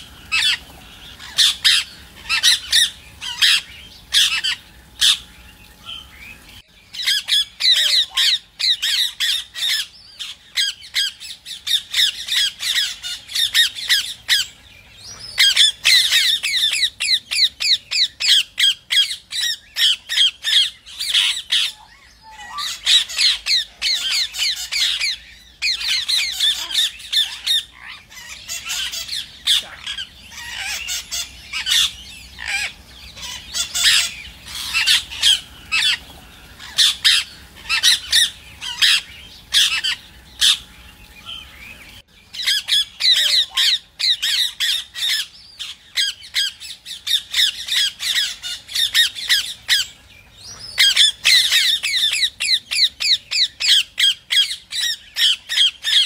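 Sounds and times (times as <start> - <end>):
parakeet squawking: 1.2 - 5.2, 6.9 - 14.5, 15.4 - 36.0, 36.6 - 40.7, 42.3 - 49.9, 50.7 - 56.0.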